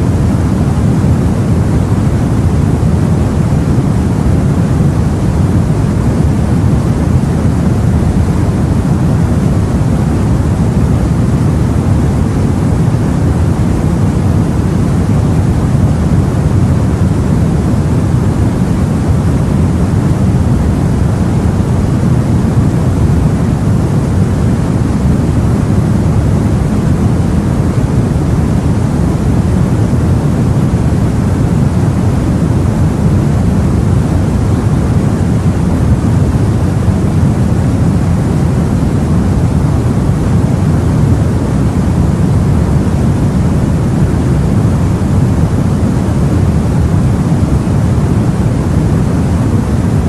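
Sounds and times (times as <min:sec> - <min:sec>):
sea and wind roar: 0:00.0 - 0:50.0.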